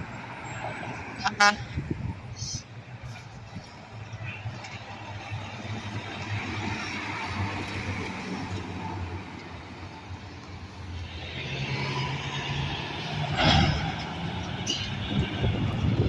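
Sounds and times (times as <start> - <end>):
passing vehicle engine: 0.0 - 16.0
tyre and road noise: 0.0 - 16.0
vehicle engine hum: 0.0 - 16.0.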